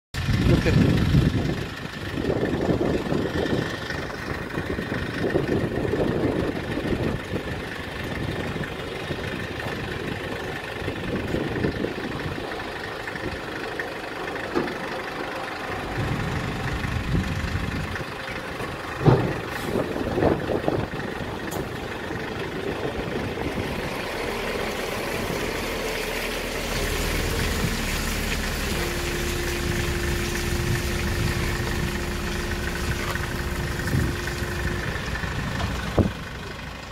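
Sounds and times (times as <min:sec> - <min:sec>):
truck engine idling: 0:00.1 - 0:36.9.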